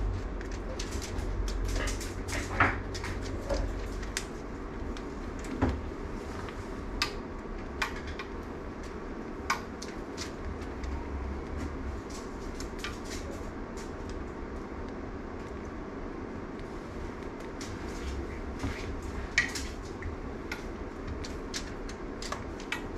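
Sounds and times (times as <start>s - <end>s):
low room hum: 0.0s - 22.9s.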